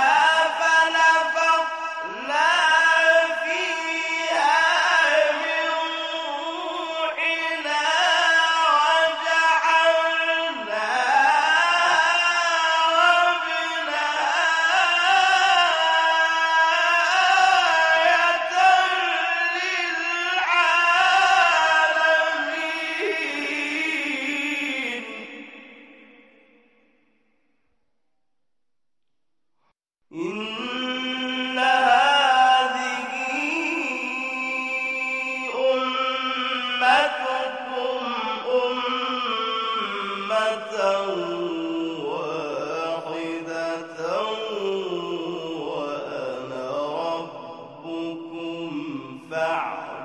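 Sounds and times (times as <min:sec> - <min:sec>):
man chanting: 0:00.0 - 0:27.0, 0:30.1 - 0:50.0.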